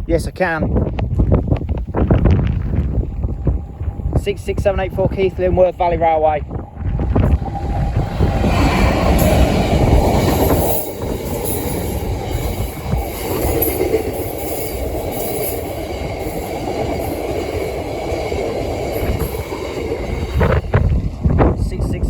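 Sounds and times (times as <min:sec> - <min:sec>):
train wagons rumbling on rails: 0:00.0 - 0:22.0
diesel locomotive engine passing: 0:01.5 - 0:22.0.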